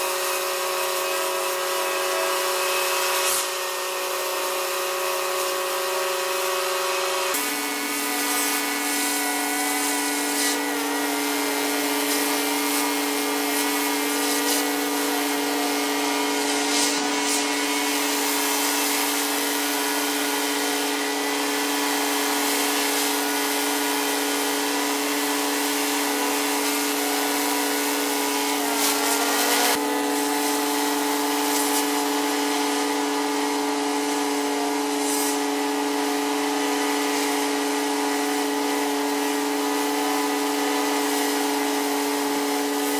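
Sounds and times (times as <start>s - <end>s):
pressure washer spraying concrete: 0.0s - 42.9s.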